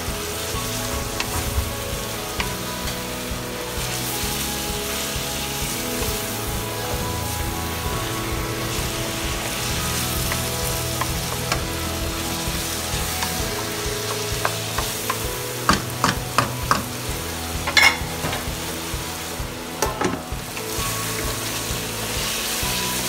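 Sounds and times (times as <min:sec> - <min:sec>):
chicken sizzling in a pan: 0:00.3 - 0:23.0.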